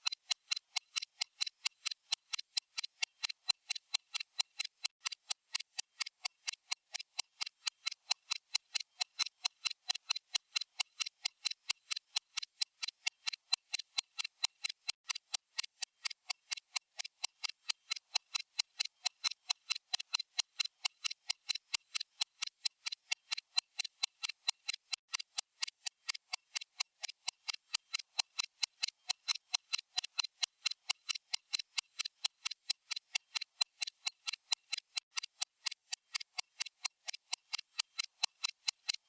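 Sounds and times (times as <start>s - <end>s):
stopwatch ticking: 0.0s - 39.0s.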